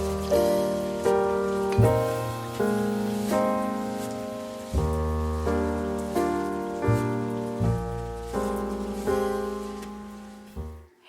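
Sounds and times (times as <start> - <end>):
gentle background music: 0.0 - 11.0.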